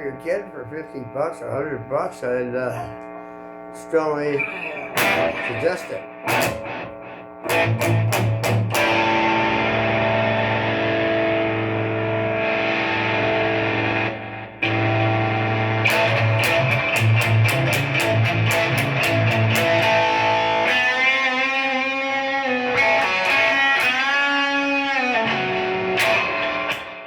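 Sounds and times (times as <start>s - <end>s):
electric guitar through amplifier: 0.0s - 27.0s.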